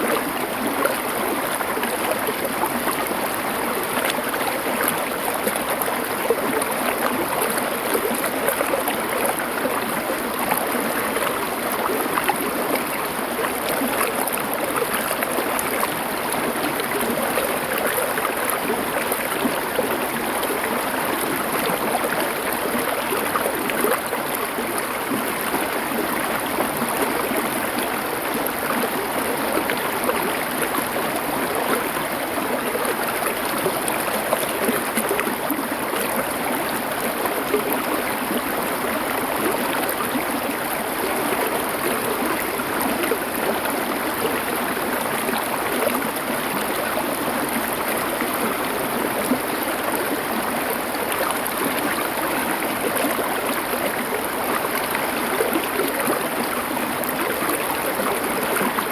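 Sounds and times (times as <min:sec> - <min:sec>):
stream water flowing over stones: 0:00.0 - 0:58.9.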